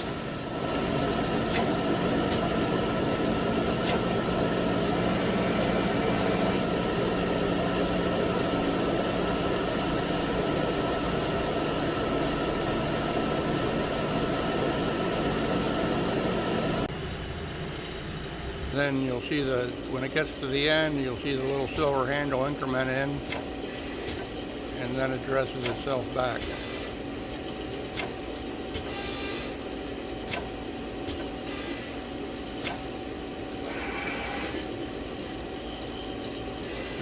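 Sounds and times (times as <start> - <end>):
grinding machine hum: 0.0 - 37.0.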